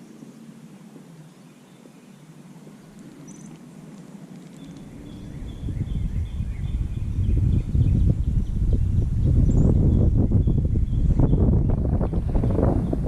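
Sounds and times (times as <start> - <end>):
faint bird chirps: 1.1 - 13.0
wind buffeting microphone: 2.5 - 13.0.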